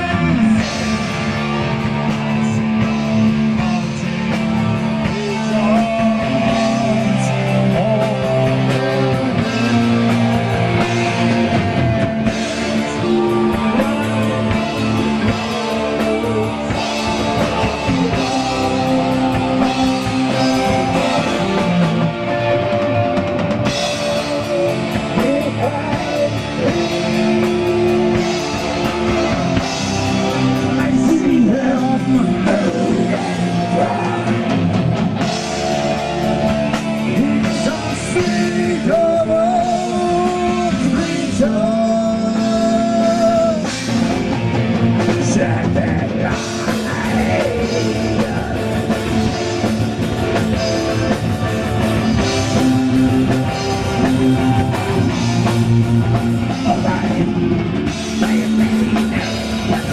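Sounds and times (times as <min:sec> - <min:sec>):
drum kit: 0:00.0 - 0:59.9
electric guitar: 0:00.0 - 0:59.9
person singing: 0:00.0 - 0:59.9.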